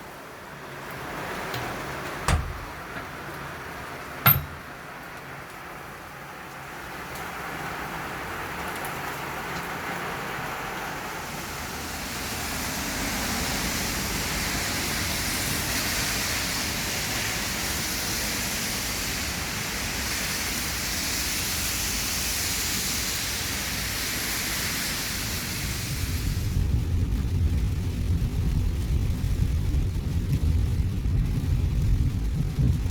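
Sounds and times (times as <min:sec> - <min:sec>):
rain hissing: 0:00.0 - 0:32.9.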